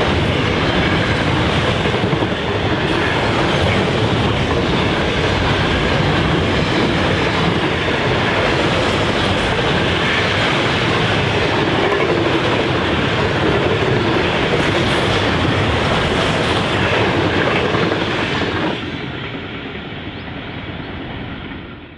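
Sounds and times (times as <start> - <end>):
wheels clacking on rails: 0.0 - 19.4
freight train rumbling past: 0.0 - 21.9.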